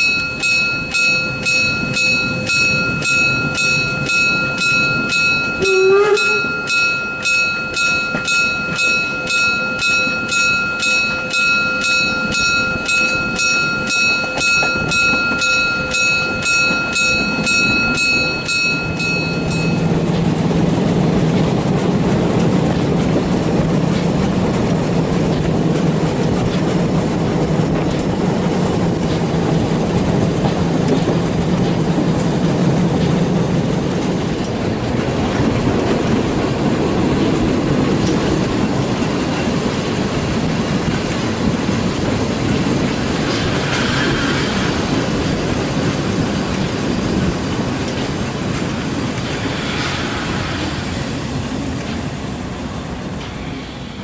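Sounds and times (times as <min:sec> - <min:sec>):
steam locomotive chuffing: 0:00.0 - 0:54.0
train rolling rumble: 0:00.0 - 0:54.0.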